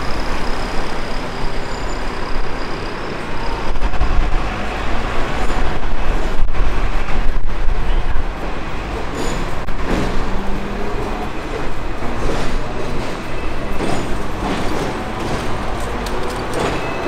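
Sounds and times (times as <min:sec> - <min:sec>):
busy street traffic: 0:00.0 - 0:17.0.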